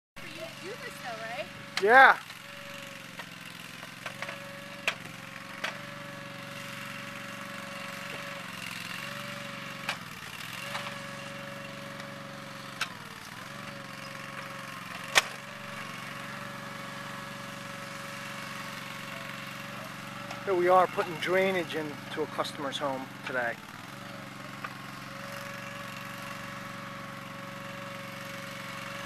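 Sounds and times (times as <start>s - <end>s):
loader engine running: 0.2s - 29.0s.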